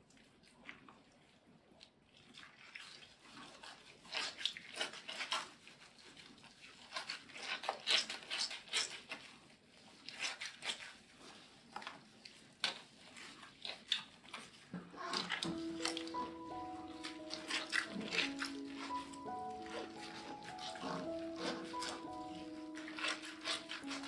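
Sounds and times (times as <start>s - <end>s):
wet fur squishing and rubbing: 2.2s - 24.0s.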